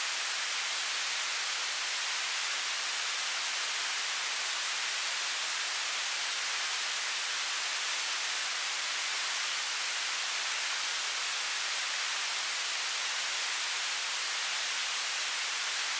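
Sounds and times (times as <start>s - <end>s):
television static hiss: 0.0s - 15.9s.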